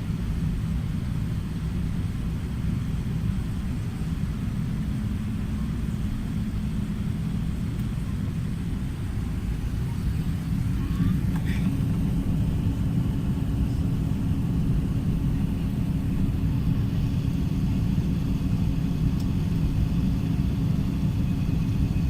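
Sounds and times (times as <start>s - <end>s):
airliner cabin engine rumble: 0.0s - 22.0s
faint steady drone: 0.0s - 22.0s.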